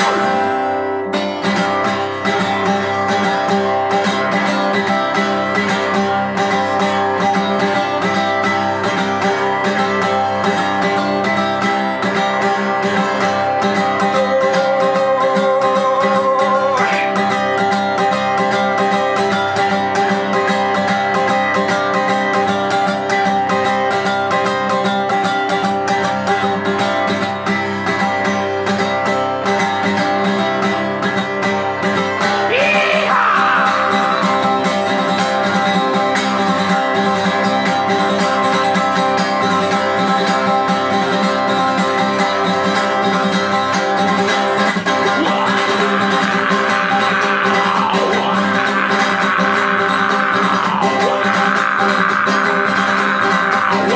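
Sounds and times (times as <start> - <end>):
acoustic guitar plucking: 0.0 - 53.9.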